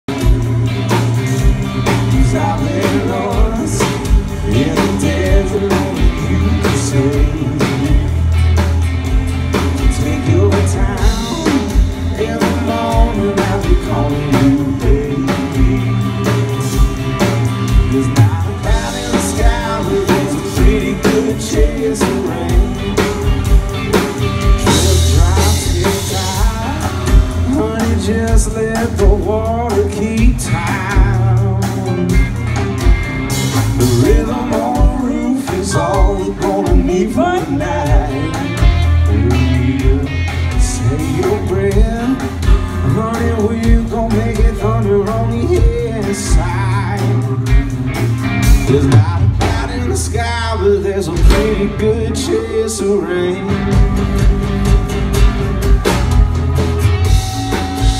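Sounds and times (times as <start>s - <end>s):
steady drum beat: 0.0s - 57.9s
man singing: 0.9s - 8.6s, 9.5s - 32.5s, 33.6s - 47.8s, 48.4s - 54.3s.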